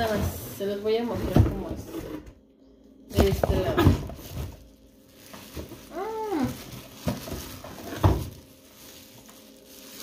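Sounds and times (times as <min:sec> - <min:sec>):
plastic wrapping rustling: 0:00.0 - 0:02.0, 0:03.1 - 0:10.0.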